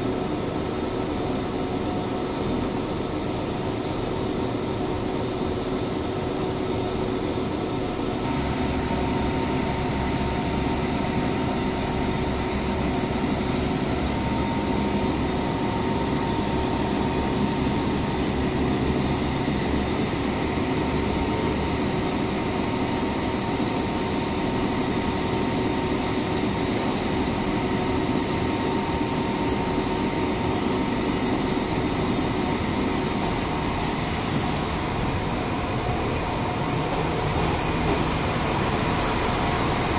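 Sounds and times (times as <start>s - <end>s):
diesel train engines idling: 0.0s - 39.9s.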